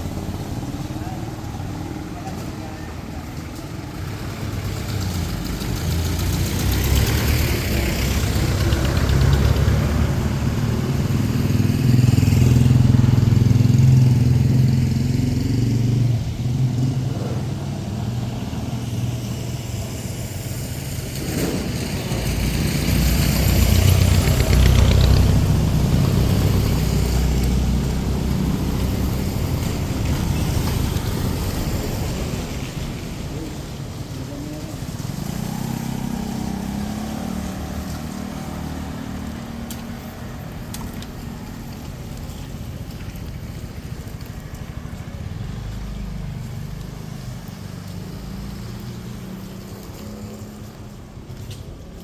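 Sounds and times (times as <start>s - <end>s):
vehicle engines in traffic: 0.0s - 52.0s.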